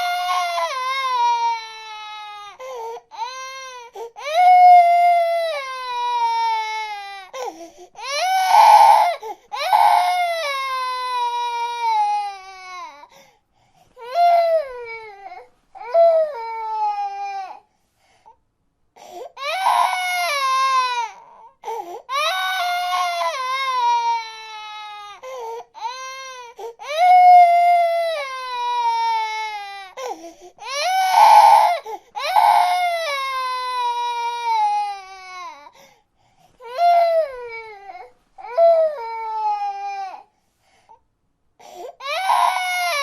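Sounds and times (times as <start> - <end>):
baby crying: 0.0 - 13.1, 14.0 - 17.6, 19.2 - 35.8, 36.6 - 40.3, 41.6 - 43.0.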